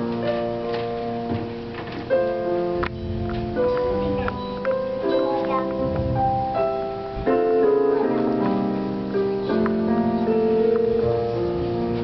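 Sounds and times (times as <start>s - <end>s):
keyboard playing slow chords: 2.2s - 12.0s.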